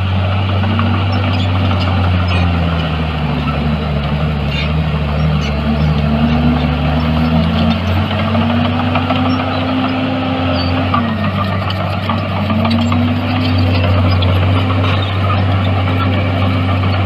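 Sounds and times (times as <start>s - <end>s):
heavy diesel machinery engine: 0.0s - 17.0s.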